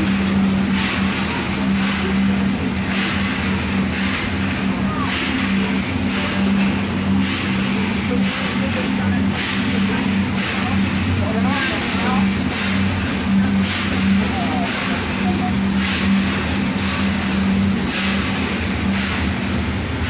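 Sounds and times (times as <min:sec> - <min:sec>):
rhythmic hissing swish: 0:00.0 - 0:20.0
steam engine running: 0:00.0 - 0:20.0.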